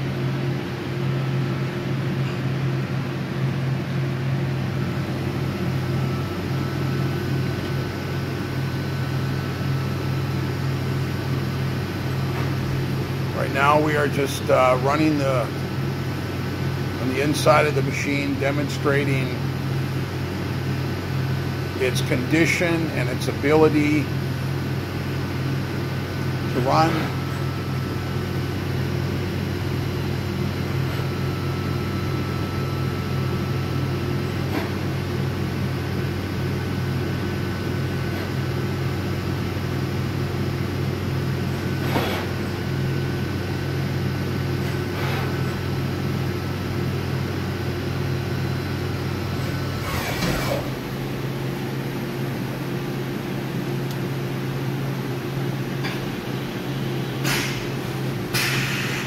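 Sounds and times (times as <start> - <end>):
high machine whine: 0.0 - 59.0
machine mechanical hum: 0.0 - 59.0.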